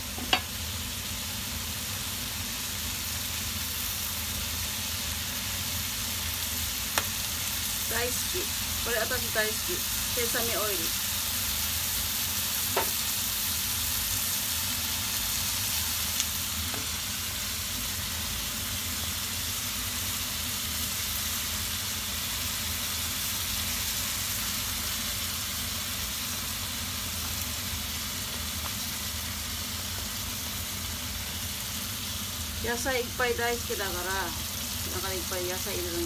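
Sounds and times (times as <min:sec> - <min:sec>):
food sizzling in a skillet: 0:00.0 - 0:36.0.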